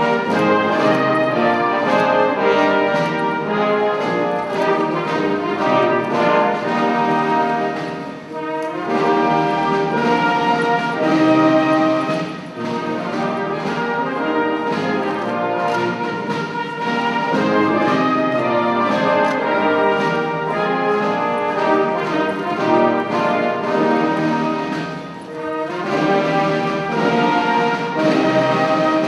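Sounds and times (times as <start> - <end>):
brass band music: 0.0 - 29.0.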